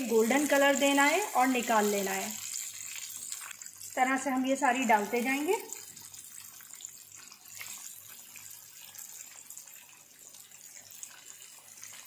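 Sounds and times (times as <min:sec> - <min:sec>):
meat deep-frying in oil: 0:00.0 - 0:12.0.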